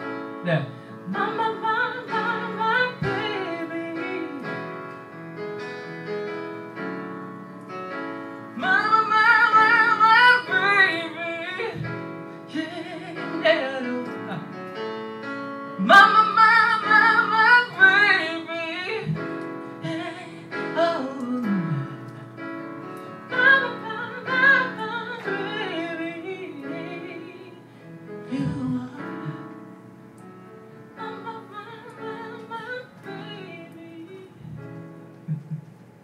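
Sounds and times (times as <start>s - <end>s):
keyboard chords: 0.0s - 36.0s.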